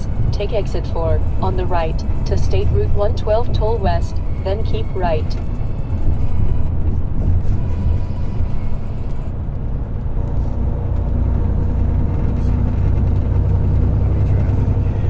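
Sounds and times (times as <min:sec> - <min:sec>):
diesel engine rumble: 0:00.0 - 0:15.0
tyres on road: 0:00.0 - 0:15.0.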